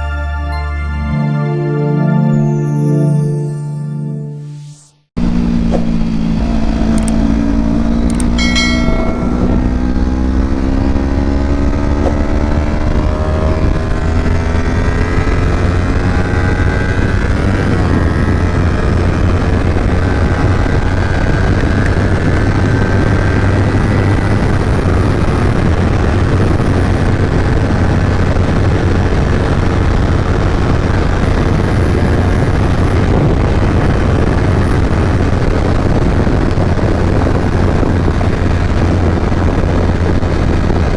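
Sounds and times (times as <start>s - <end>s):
motorcycle engine accelerating: 5.2s - 40.9s
wind and road noise: 5.2s - 40.9s.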